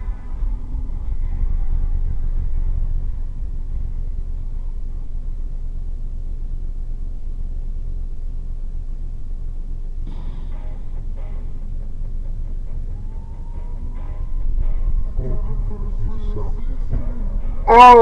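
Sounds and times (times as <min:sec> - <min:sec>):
car interior road and engine noise: 0:00.0 - 0:18.0.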